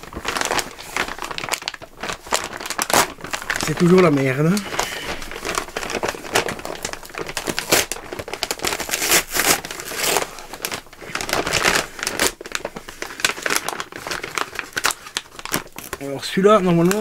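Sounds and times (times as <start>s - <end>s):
envelope crinkling and rustling: 0.0s - 17.0s.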